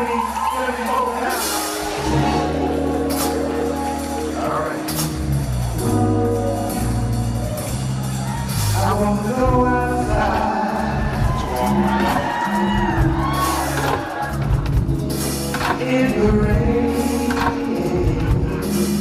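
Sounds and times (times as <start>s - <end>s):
live band playing soul music: 0.0s - 19.0s.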